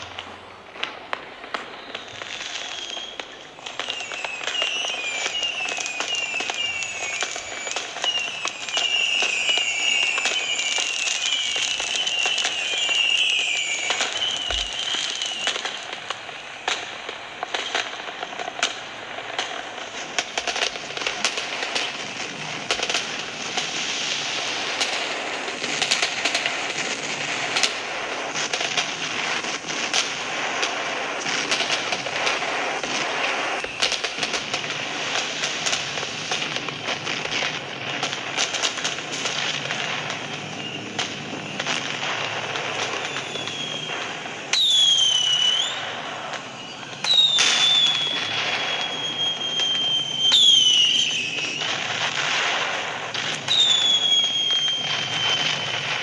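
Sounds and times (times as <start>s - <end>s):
firecrackers crackling and popping: 0.0s - 56.0s
whistling rocket: 0.0s - 56.0s.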